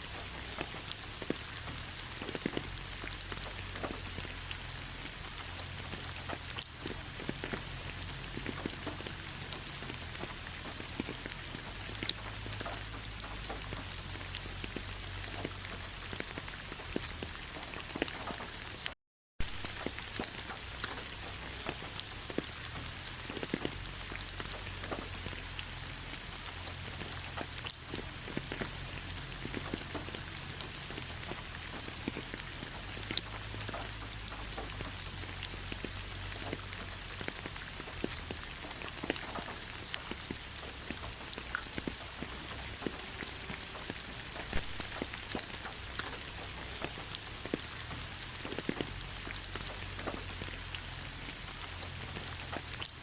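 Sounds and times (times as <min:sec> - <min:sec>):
rain pattering on leaves: 0:00.0 - 0:53.0.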